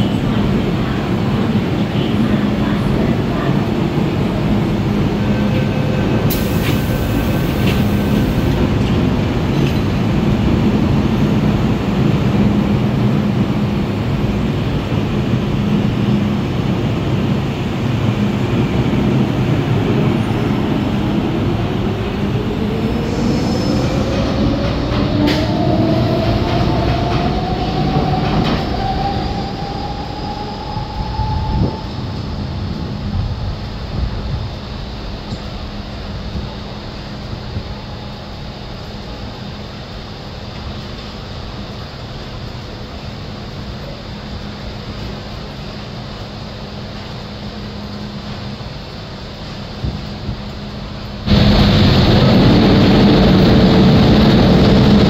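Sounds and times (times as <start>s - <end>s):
metro train rumbling on rails: 0.0s - 55.0s.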